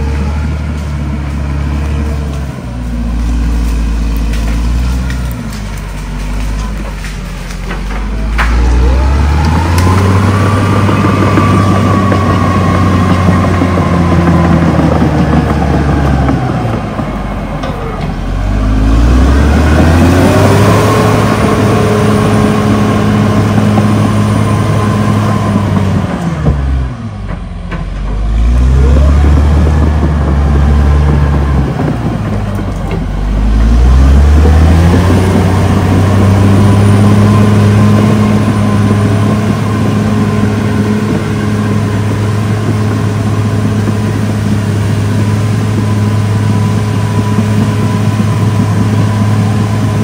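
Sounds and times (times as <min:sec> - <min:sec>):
bulldozer diesel engine revving: 0:00.0 - 0:50.0.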